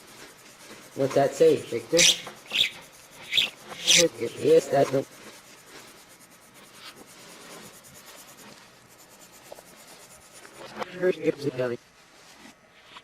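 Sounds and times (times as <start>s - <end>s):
faint scratching and rubbing: 0.0s - 13.0s.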